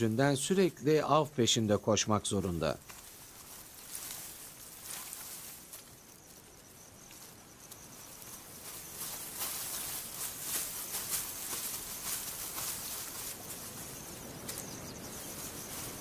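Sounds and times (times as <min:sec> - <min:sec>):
high insect drone: 0:00.0 - 0:16.0
rustling and clicking in grass: 0:00.0 - 0:16.0.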